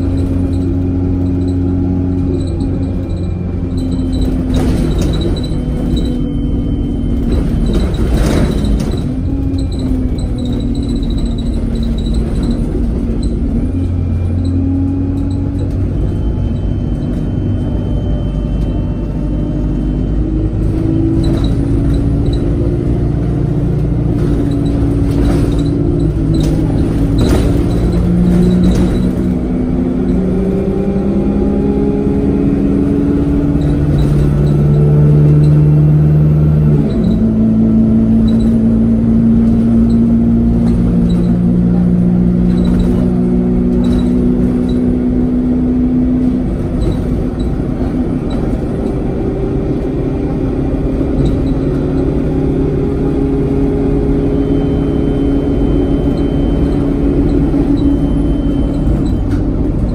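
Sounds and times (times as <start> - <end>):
bus engine pulling hard: 0.0 - 59.9
road rumble: 0.0 - 59.9.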